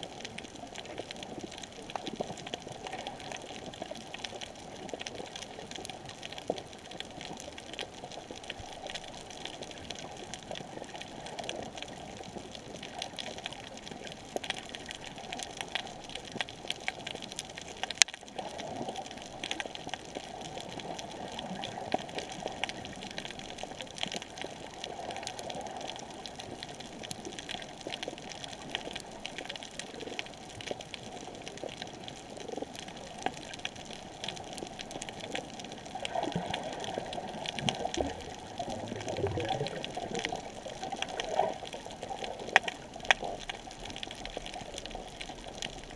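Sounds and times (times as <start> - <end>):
crackling clicks: 0.0 - 45.9
underwater water noise: 0.0 - 45.9.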